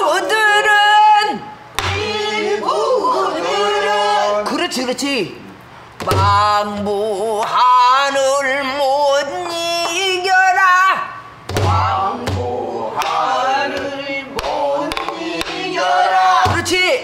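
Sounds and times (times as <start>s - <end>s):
woman singing with vibrato: 0.0s - 4.4s, 6.1s - 16.9s.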